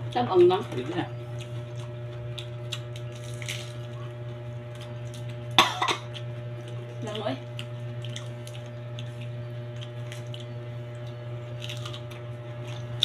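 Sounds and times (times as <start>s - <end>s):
cabbage leaves tearing and crunching: 1.3s - 13.0s.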